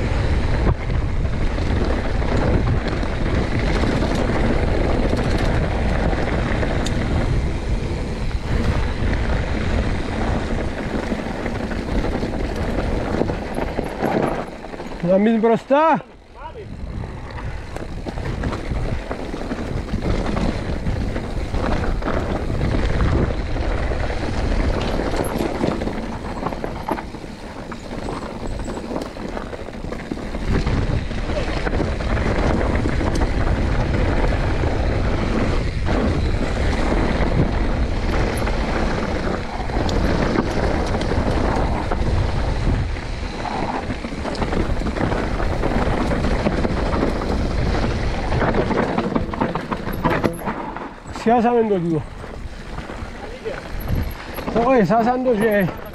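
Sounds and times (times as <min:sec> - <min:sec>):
mountain bike rumble and rattle: 0:00.0 - 0:55.9
wind buffeting microphone: 0:00.0 - 0:55.9.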